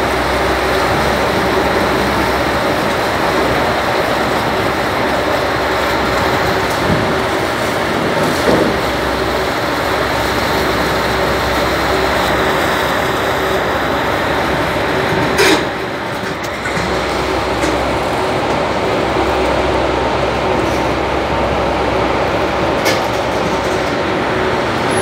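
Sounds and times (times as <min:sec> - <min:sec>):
ferry engine rumbling: 0:00.0 - 0:25.0.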